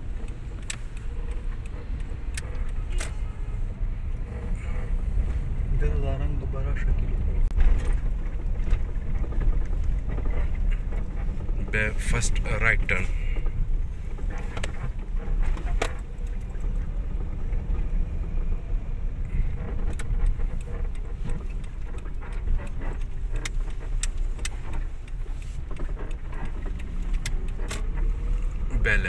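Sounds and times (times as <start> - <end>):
engine and road rumble: 0.0 - 29.0
light clicks and rattles: 0.0 - 29.0.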